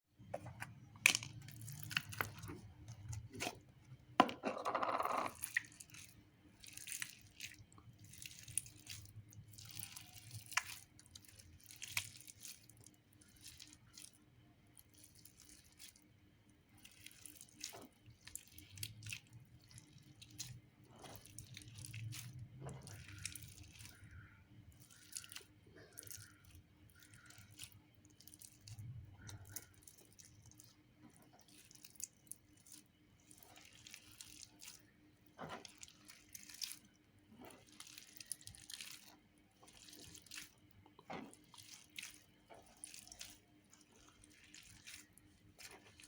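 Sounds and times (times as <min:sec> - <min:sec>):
slime squelch: 0:00.1 - 0:46.0
slime clicks and sticky crackles: 0:01.0 - 0:03.6, 0:05.3 - 0:16.1, 0:16.7 - 0:46.0.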